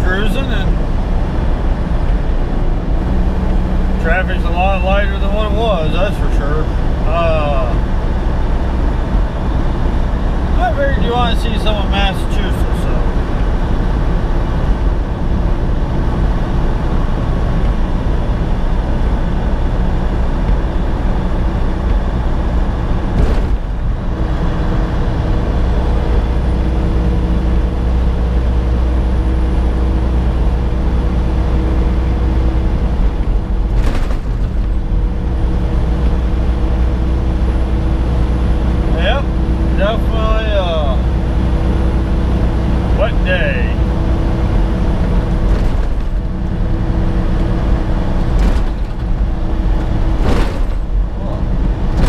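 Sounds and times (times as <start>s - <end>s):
truck engine and tyre noise: 0.0s - 52.0s.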